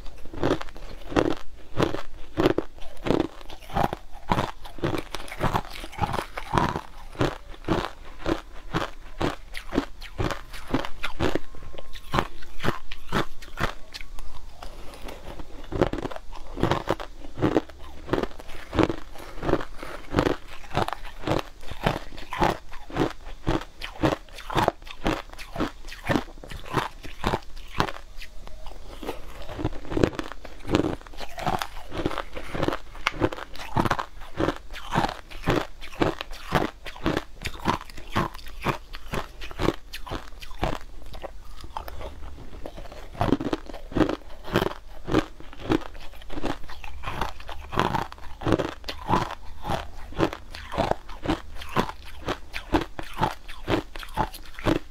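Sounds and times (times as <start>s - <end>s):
crushed ice being chewed: 0.0s - 54.9s.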